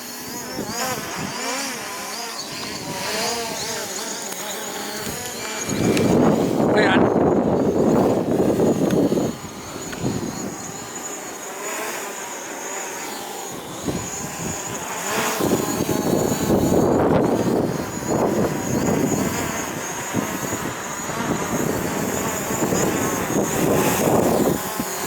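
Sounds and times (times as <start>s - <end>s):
drone propellers whining: 0.0s - 25.0s
wind buffeting microphone: 0.4s - 1.9s, 2.5s - 3.9s, 4.8s - 11.1s, 13.5s - 25.0s.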